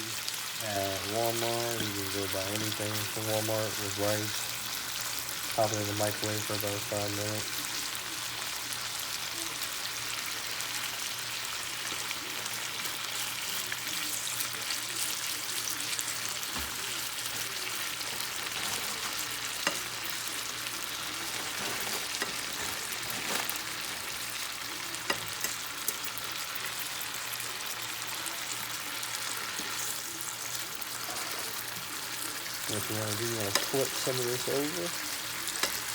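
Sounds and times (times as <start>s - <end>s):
chicken sizzling in frying pan: 0.0s - 35.9s.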